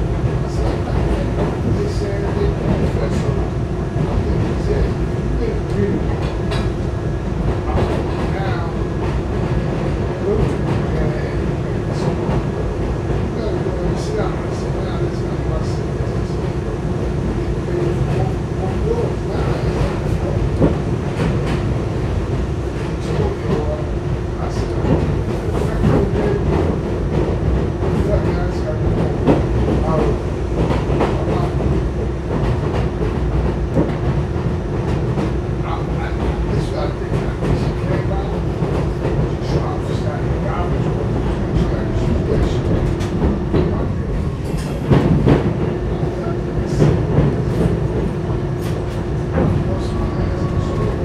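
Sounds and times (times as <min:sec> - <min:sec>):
subway car rumbling on track: 0:00.0 - 0:51.0
clacks over rail joints: 0:05.6 - 0:16.4, 0:17.8 - 0:22.1, 0:24.4 - 0:51.0.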